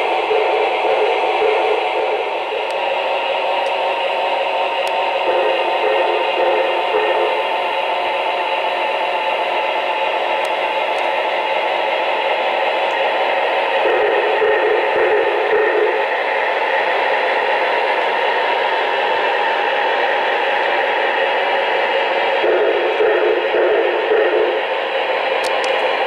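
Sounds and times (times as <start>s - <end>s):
model trains whirring: 0.0s - 26.0s.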